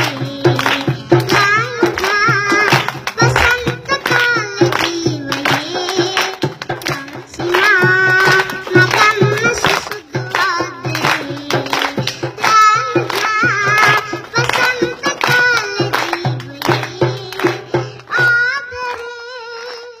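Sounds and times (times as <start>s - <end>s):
small drum beating: 0.0s - 19.2s
girl singing into microphone: 0.0s - 20.0s.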